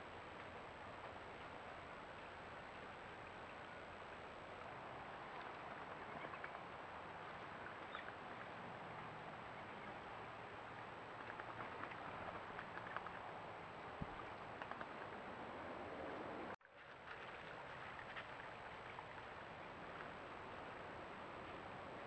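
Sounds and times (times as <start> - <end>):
faint ticks and rustles: 0.0 - 15.3, 16.1 - 22.0.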